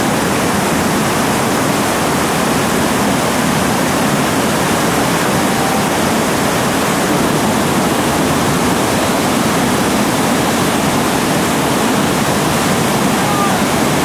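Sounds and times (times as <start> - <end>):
whitewater rushing through rapid: 0.0 - 14.0.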